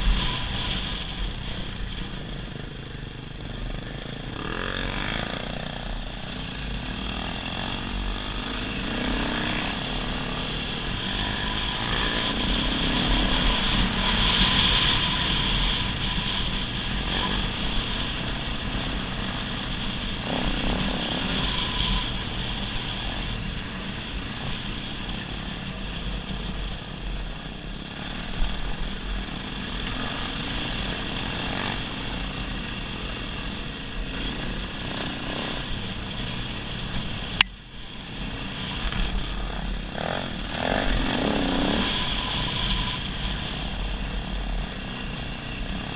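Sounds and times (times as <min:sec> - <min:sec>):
dirt bike engine droning: 0:00.0 - 0:45.9.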